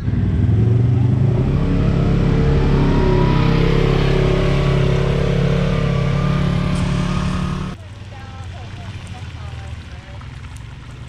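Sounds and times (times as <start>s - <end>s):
vehicle engine running hard: 0.0s - 11.0s.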